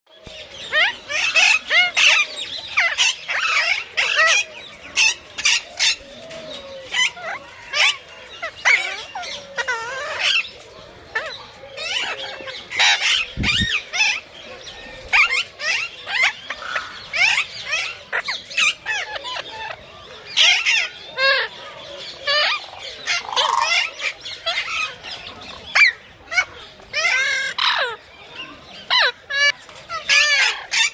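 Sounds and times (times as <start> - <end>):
parrots squawking and whistling: 0.4 - 30.9.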